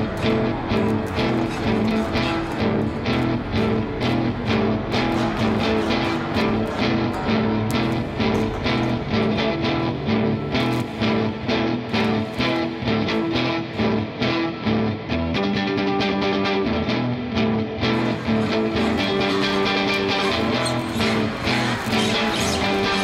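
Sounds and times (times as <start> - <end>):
guitar-driven song: 0.0 - 23.0.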